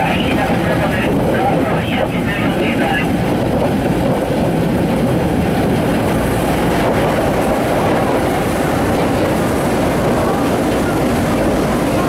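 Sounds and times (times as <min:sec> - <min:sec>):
rail cart wheels on rails: 0:00.0 - 0:12.0.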